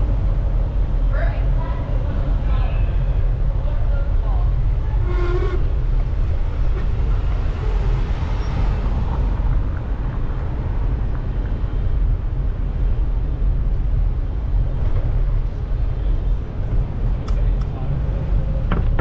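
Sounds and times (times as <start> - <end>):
street traffic: 0.0 - 19.0
wind rumble on microphone: 0.0 - 19.0.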